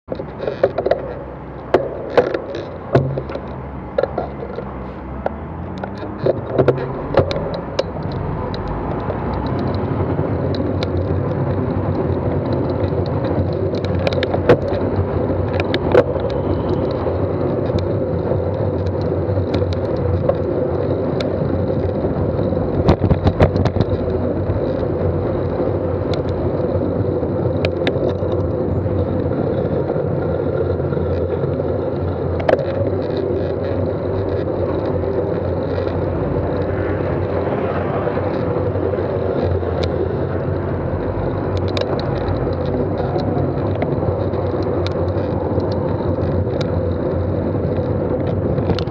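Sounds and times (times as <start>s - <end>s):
rumble of engines and tyres: 0.0s - 48.9s
sharp clicks and knocks: 0.1s - 48.9s.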